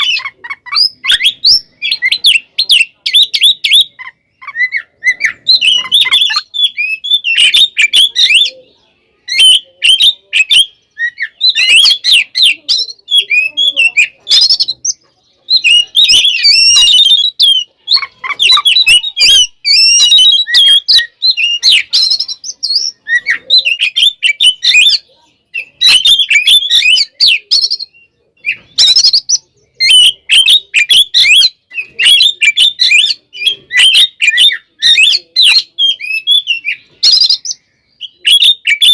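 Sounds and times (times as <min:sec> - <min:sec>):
bird singing chirping and whistling: 0:00.0 - 0:38.9.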